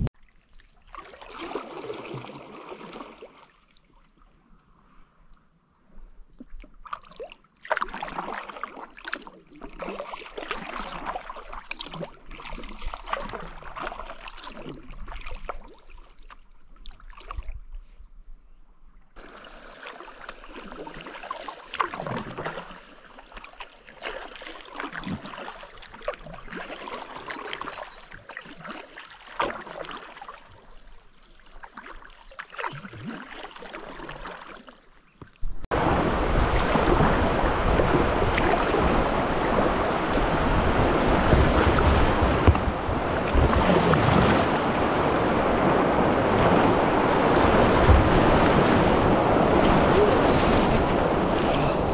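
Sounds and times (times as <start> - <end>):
kayak paddle splashing: 0.0 - 4.4, 6.4 - 17.5, 19.2 - 51.9
water gurgling around hull: 6.2 - 17.9, 19.2 - 51.9.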